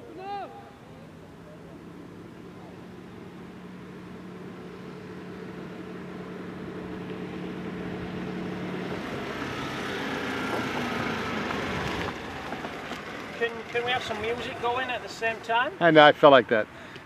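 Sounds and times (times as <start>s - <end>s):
vehicle engine approaching: 0.0s - 16.8s.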